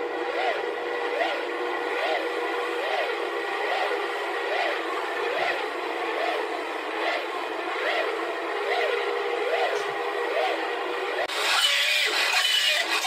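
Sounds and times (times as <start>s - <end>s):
steady droning tone: 0.0s - 13.0s
wailing alarm siren: 0.0s - 13.0s.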